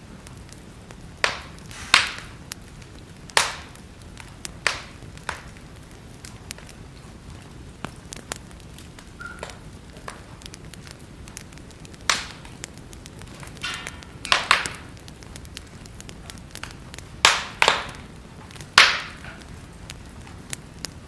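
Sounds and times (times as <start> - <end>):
wood fire crackling: 0.0 - 21.0
sharp pops from fire: 0.1 - 21.0.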